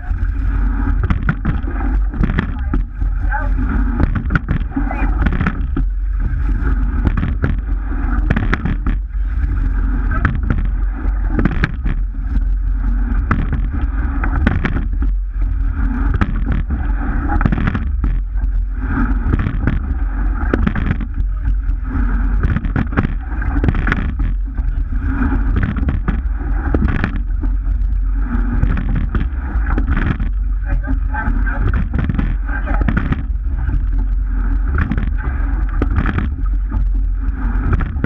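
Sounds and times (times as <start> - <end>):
water rushing along a hull: 0.0 - 38.0
wind buffeting microphone: 0.0 - 38.0
oar and rigging knocks: 0.9 - 38.0.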